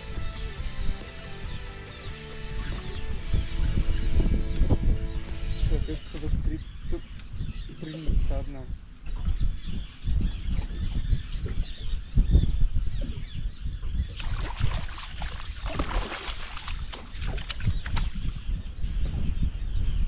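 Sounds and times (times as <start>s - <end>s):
birds calling: 0.0s - 20.0s
wind buffeting microphone: 2.5s - 20.0s.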